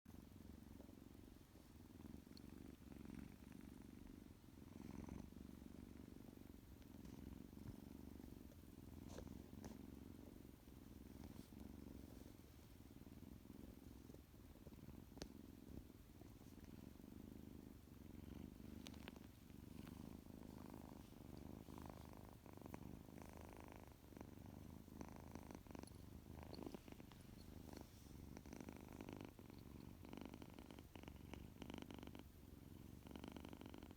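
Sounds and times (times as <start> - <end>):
kitten purring: 0.1 - 33.9.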